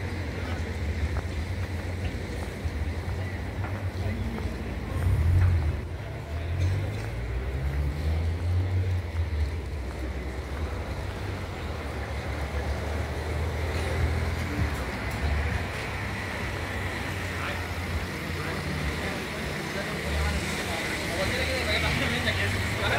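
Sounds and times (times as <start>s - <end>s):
street traffic: 0.0s - 22.9s.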